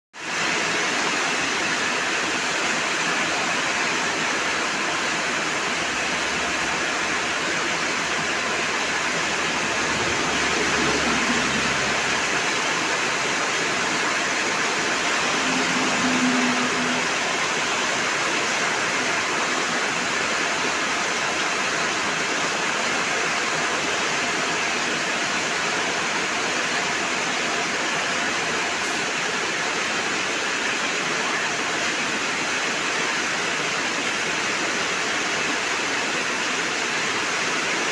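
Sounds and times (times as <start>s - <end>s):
heavy rain downpour: 0.2s - 37.9s.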